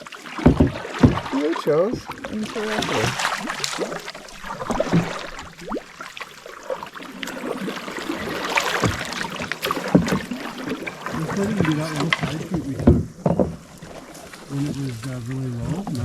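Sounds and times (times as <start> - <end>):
knocks and scrapes on hull: 0.0 - 16.0
paddle splashes: 0.0 - 16.0.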